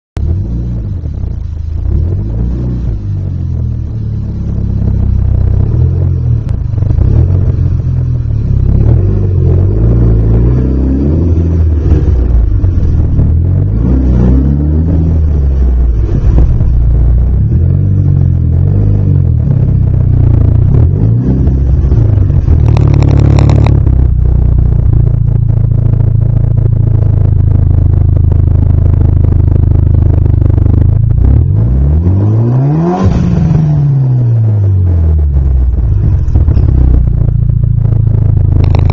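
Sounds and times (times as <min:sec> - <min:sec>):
car engine idling deeply: 0:00.2 - 0:38.9
engine revving: 0:00.2 - 0:38.9
engine throttle blips: 0:00.2 - 0:38.9.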